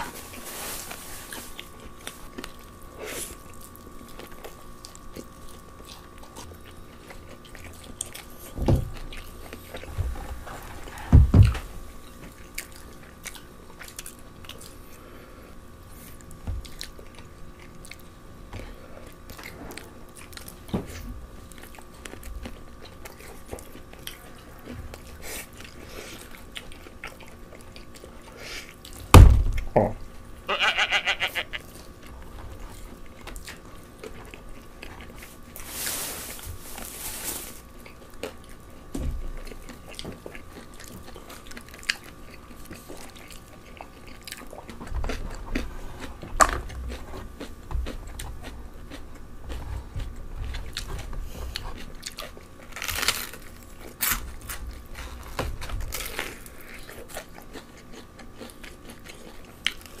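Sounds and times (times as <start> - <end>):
fried chicken crunching being chewed: 0.0 - 10.3, 12.0 - 29.1, 30.4 - 60.0.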